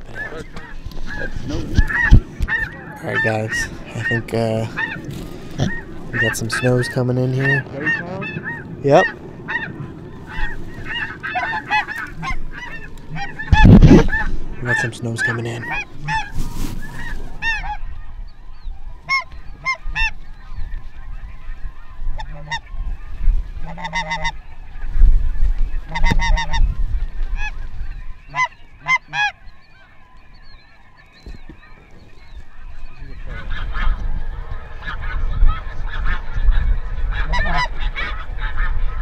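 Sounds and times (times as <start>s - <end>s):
geese honking: 0.0s - 39.0s.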